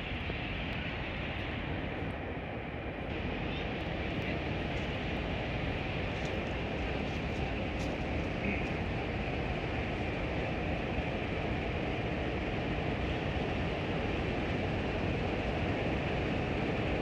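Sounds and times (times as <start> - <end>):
diesel locomotives running: 0.0 - 17.0.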